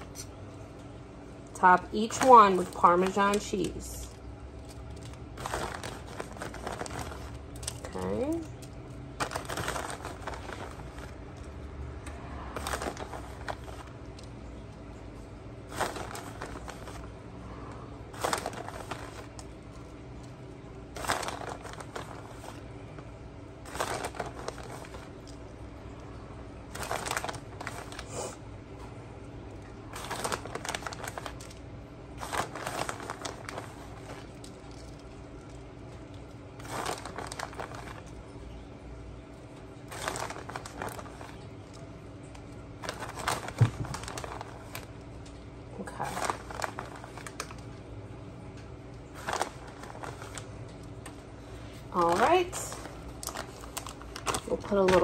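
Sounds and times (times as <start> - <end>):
plastic bag crinkling: 0.0 - 55.0.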